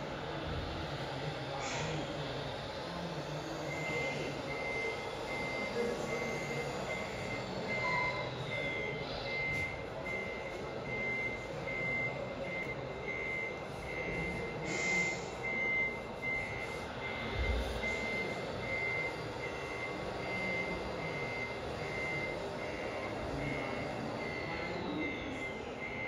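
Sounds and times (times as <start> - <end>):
constant background noise: 0.0 - 26.0
high electronic beeping: 1.9 - 26.0.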